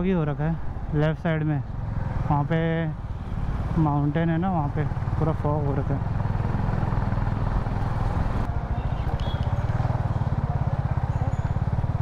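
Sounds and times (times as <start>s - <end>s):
motorcycle engine running: 0.7s - 12.0s.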